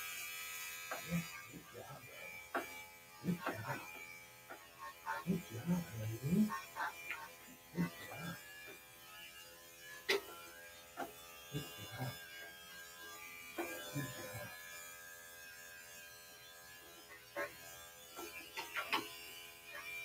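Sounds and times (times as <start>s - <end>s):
electric clippers buzzing: 0.0s - 20.0s.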